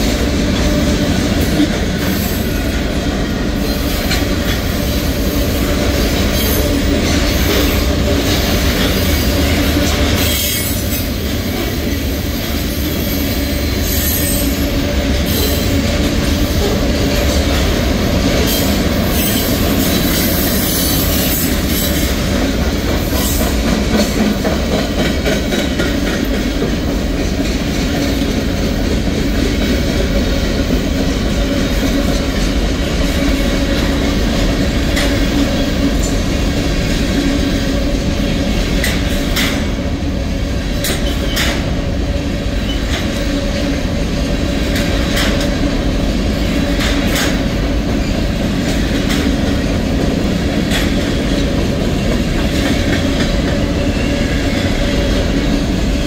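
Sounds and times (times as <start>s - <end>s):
train rumble: 0.0s - 56.0s
train wheels clicking over rail joints: 0.0s - 56.0s.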